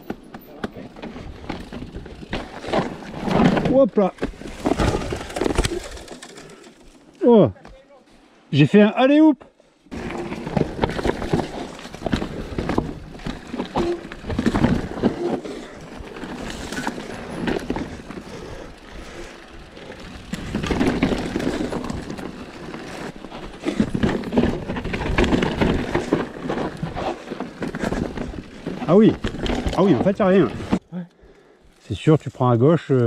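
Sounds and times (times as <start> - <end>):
bike knocks and rattles: 0.0 - 7.0, 9.9 - 30.8
bike tyre noise on rocky trail: 0.0 - 8.4, 9.6 - 33.0.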